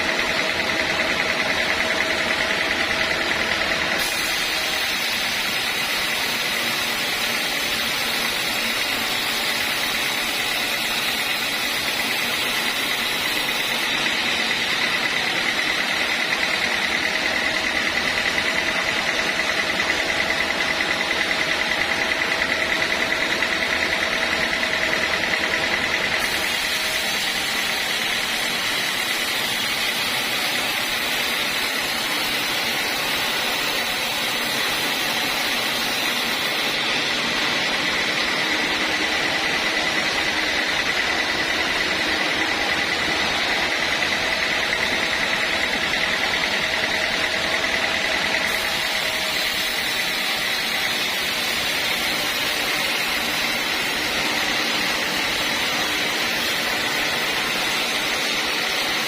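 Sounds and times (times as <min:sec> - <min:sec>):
band sawmill sawing log: 0:00.0 - 0:59.0.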